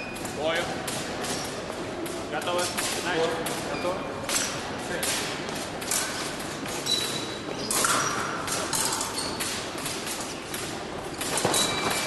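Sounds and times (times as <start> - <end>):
fencing blades clashing: 0.0 - 12.0
large hall noise: 0.0 - 12.0.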